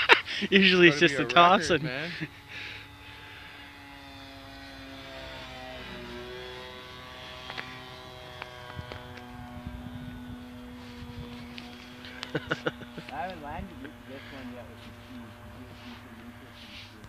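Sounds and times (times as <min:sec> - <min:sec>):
model airplane motor buzzing: 0:00.0 - 0:17.0.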